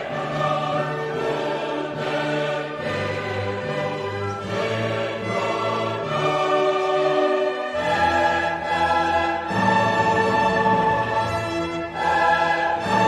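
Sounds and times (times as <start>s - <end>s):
choir singing sustained chords: 0.0s - 13.0s
orchestral music: 0.0s - 13.0s.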